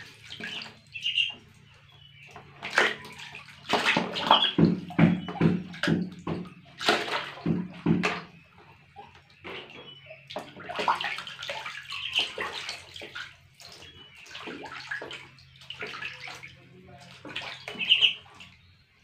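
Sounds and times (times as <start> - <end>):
water splashing in a plastic tub: 0.0 - 19.0.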